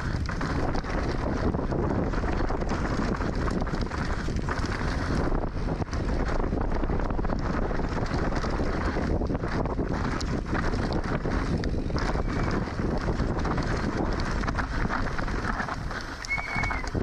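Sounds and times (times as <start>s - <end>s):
bike clattering over rough ground: 0.0s - 17.0s
wind rushing over microphone: 0.0s - 17.0s.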